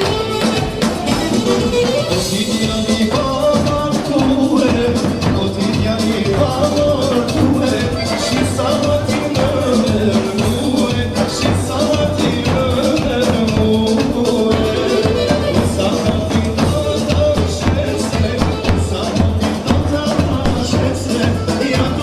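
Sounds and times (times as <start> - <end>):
shaken percussion: 0.0 - 22.0
upbeat song with singing: 0.0 - 22.0.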